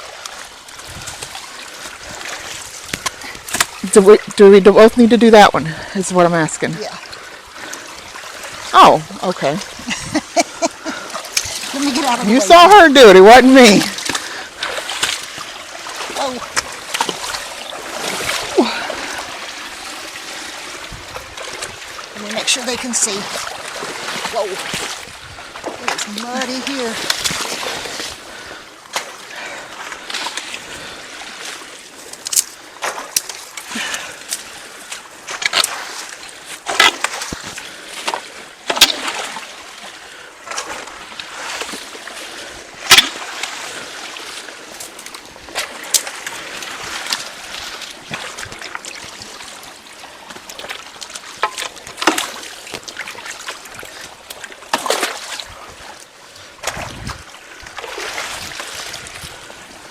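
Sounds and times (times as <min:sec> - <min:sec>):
stream rushing: 0:00.0 - 0:59.9
water splashing and sloshing: 0:00.0 - 0:59.9.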